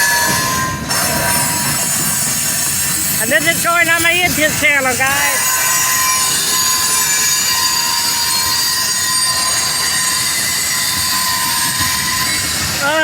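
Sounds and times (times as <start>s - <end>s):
freight train cars rumbling: 0.0s - 13.0s
steel wheels squealing on rails: 0.0s - 13.0s.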